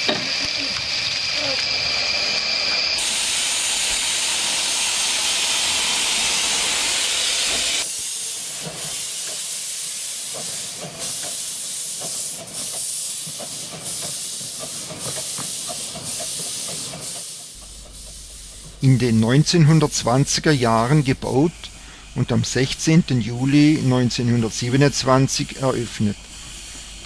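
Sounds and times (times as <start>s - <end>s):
steam locomotive hissing: 0.0s - 27.0s.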